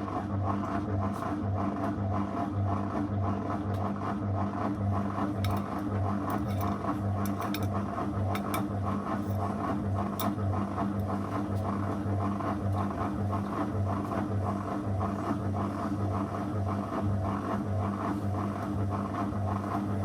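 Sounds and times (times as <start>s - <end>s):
washing machine motor humming: 0.0s - 20.0s.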